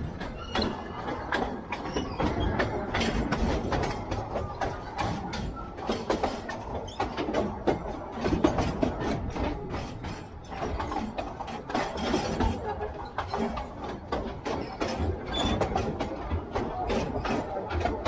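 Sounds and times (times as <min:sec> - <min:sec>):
train rumbling on track: 0:00.0 - 0:18.0
wheels knocking and rattling: 0:00.0 - 0:18.0.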